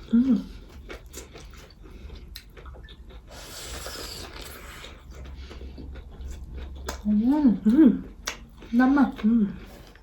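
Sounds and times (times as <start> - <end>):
chewing crunchy food: 0.0 - 10.0.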